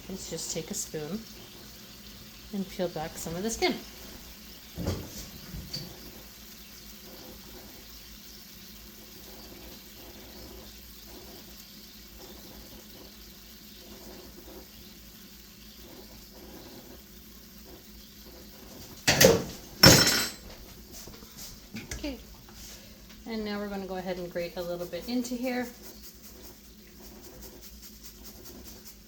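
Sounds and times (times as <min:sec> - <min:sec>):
sauce bubbling in a pan: 0:00.0 - 0:29.0.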